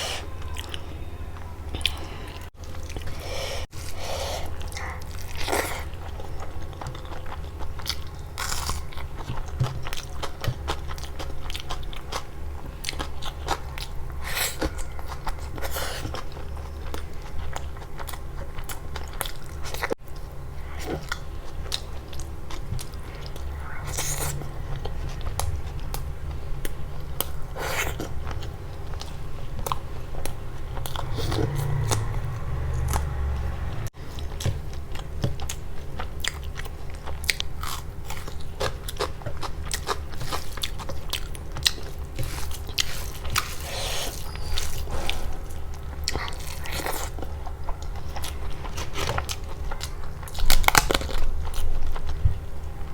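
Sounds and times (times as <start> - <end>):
person chewing crunchy food: 0.0 - 52.9
steady low hum: 0.0 - 52.9.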